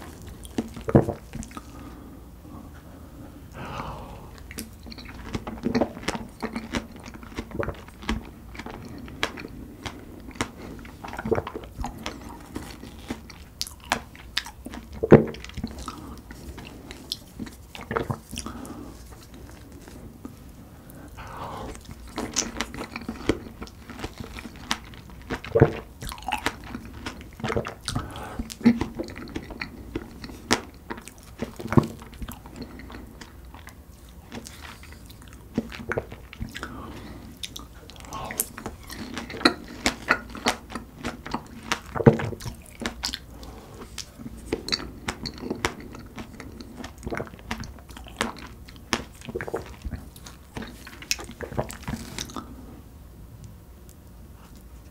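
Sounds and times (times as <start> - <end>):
person chewing strawberries: 0.0 - 52.9.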